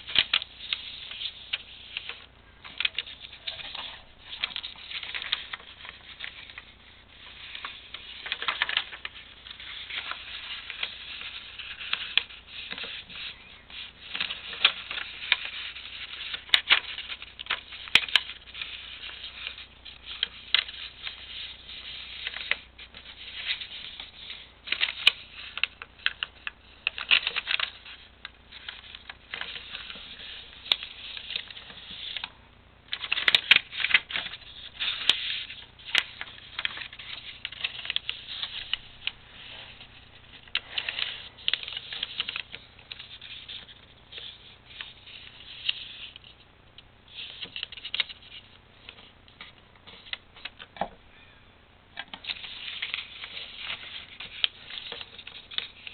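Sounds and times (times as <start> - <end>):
paper rustling and crinkling: 0.0 - 46.4, 47.1 - 50.9, 52.1 - 55.9
paper crackling along creases: 0.0 - 50.7, 52.1 - 55.9.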